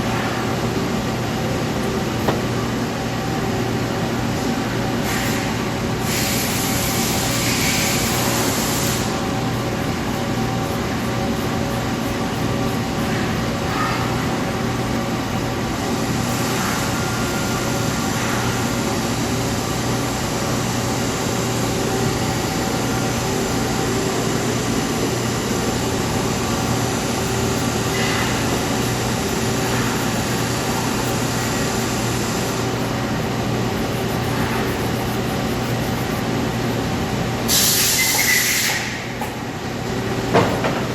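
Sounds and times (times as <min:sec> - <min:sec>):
lathe mechanical hum: 0:00.0 - 0:40.9.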